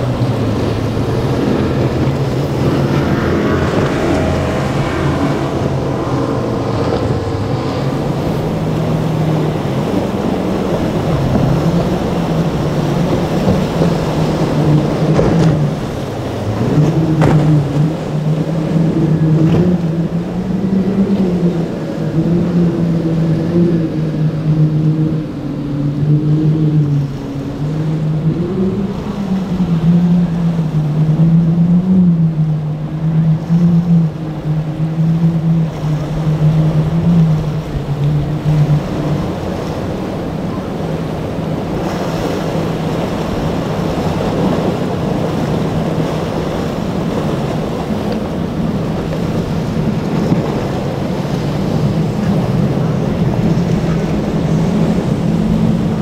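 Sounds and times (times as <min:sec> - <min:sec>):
breaking waves and spray: 0:00.0 - 0:56.0
outboard motors droning: 0:00.0 - 0:56.0
wind: 0:00.0 - 0:56.0.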